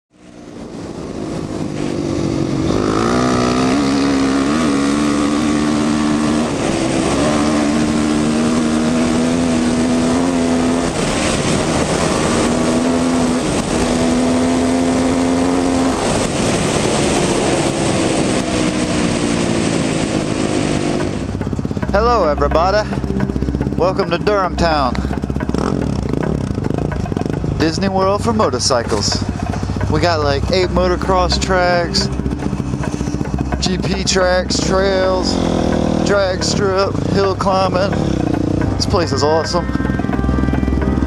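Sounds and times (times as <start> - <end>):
wind and tyres on dirt: 0.1 - 31.2, 31.9 - 41.0
dirt bike engine running: 0.1 - 41.0.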